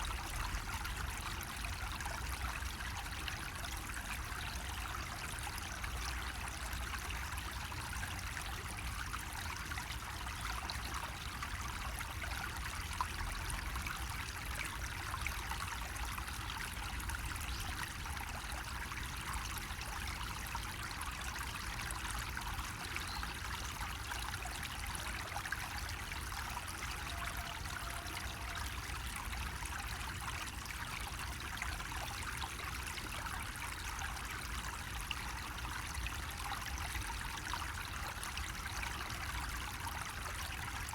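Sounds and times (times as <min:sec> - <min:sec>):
water trickling from bamboo spout: 0:00.0 - 0:40.9.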